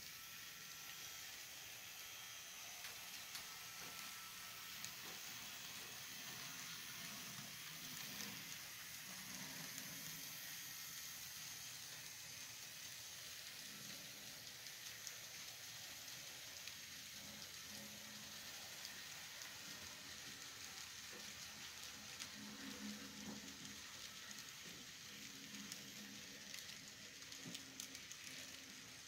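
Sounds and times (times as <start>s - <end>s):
faint hiss with crackle: 0.0s - 29.0s
model train rolling: 0.0s - 29.0s.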